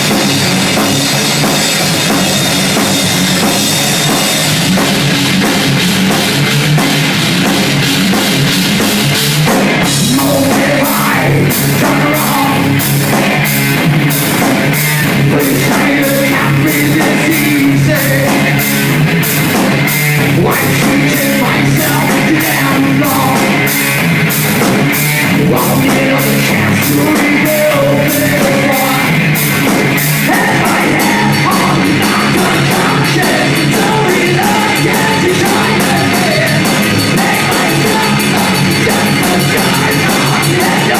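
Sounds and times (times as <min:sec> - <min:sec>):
drum and cymbal strikes: 0:00.0 - 0:40.9
heavy metal band playing live: 0:00.0 - 0:40.9.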